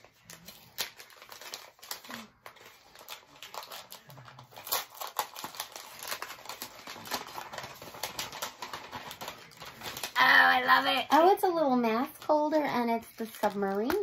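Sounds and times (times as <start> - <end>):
packaging rustling and crinkling: 0.0 - 10.9, 12.0 - 14.0.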